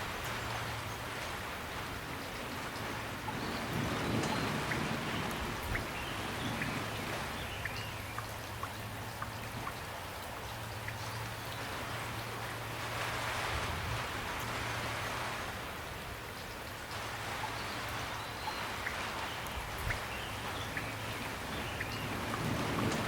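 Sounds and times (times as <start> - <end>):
raindrops ticking: 0.0 - 13.4, 14.2 - 23.0
steady rain falling: 0.0 - 23.0.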